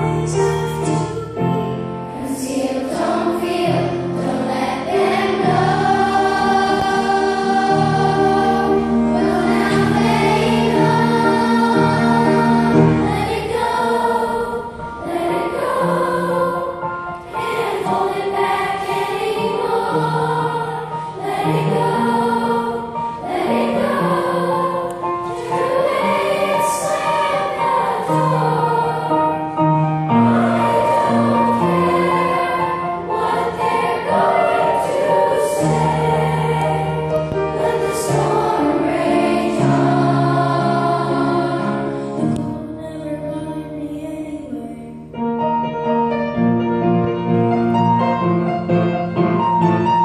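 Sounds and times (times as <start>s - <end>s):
children's choir singing: 0.0s - 45.1s
piano low notes: 0.0s - 50.0s.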